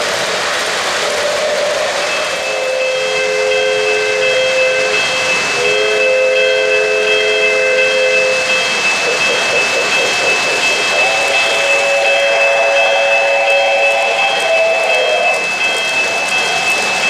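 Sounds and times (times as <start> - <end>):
model trains rumbling on track: 0.0 - 17.0
electronic steam whistle: 1.0 - 17.0.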